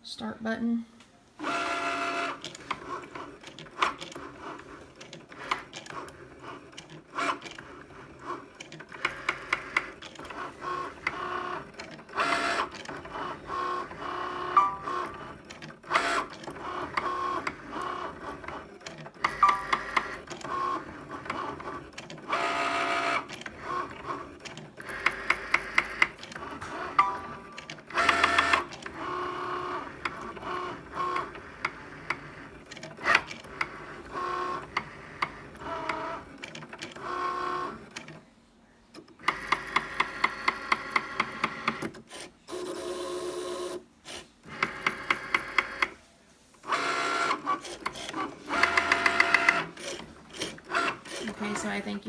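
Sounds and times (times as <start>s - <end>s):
cutting machine motors whirring: 1.4s - 38.3s, 38.9s - 46.0s, 46.6s - 52.0s.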